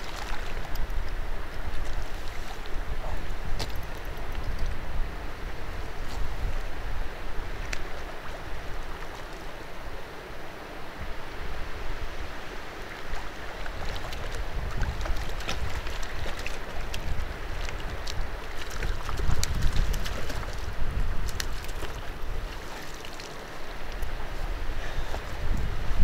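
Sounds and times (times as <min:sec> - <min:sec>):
wind buffeting microphone: 0:00.0 - 0:09.0, 0:10.9 - 0:22.6, 0:23.7 - 0:26.0.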